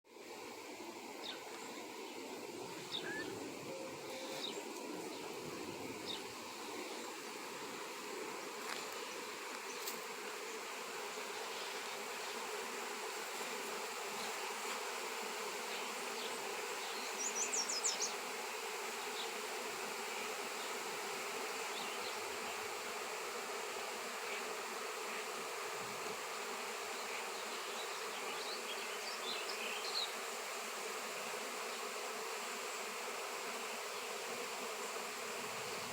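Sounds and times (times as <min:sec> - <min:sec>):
bees buzzing: 0:00.1 - 0:35.9.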